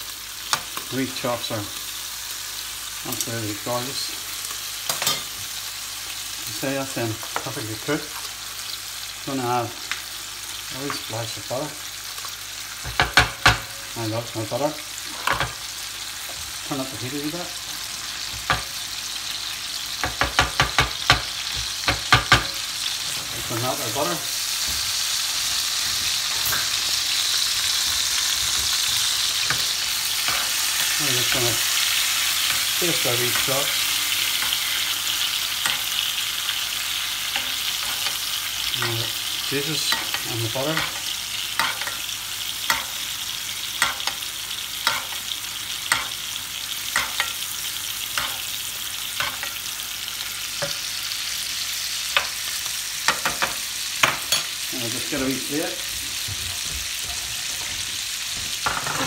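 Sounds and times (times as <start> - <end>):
meat sizzling in a frying pan: 0.0 - 59.0.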